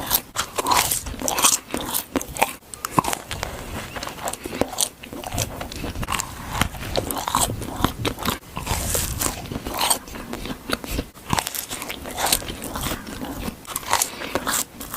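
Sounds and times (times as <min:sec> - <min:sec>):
person chewing crunchy food: 0:00.0 - 0:14.9.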